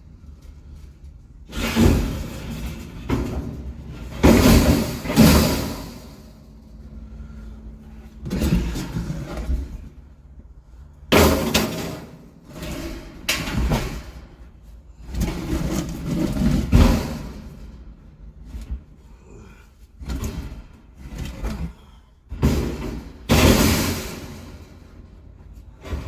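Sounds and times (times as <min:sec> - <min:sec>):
bangs and clattering thuds: 0:01.5 - 0:10.2, 0:11.1 - 0:19.0, 0:20.0 - 0:26.0.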